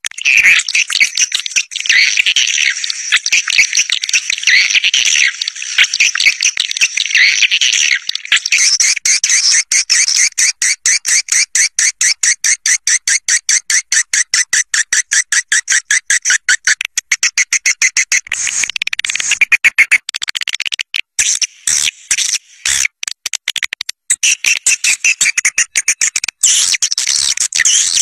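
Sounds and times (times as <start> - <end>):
high bird chirps: 0.1 - 22.4, 24.1 - 28.0.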